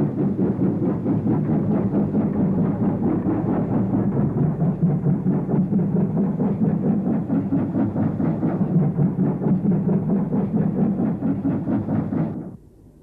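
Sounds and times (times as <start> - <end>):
steam locomotive chuffing: 0.0 - 12.6.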